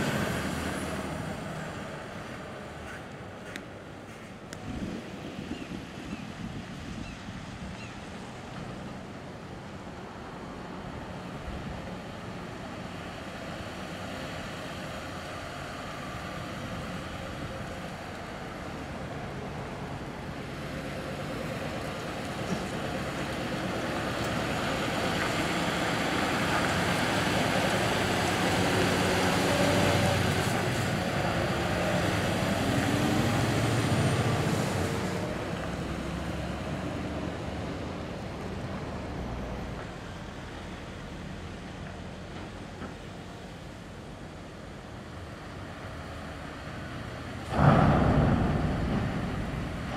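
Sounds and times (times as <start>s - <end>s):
dump truck diesel engine passing: 0.0s - 5.2s, 8.2s - 49.9s.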